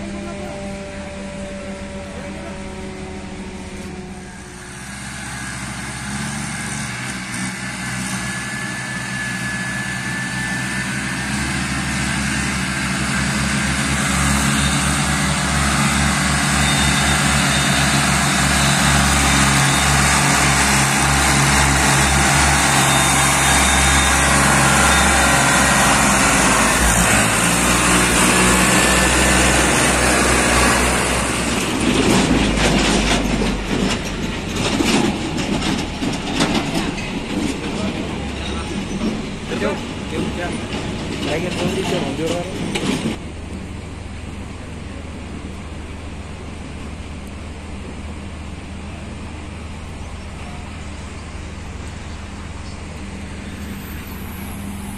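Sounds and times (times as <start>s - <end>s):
tractor engine under load: 0.0s - 54.9s.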